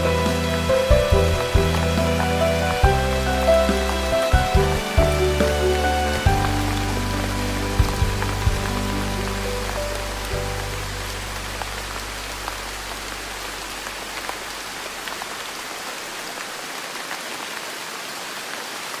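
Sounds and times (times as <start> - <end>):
sharp raindrop ticks: 0.0 - 16.5
steady rainfall: 0.0 - 19.0.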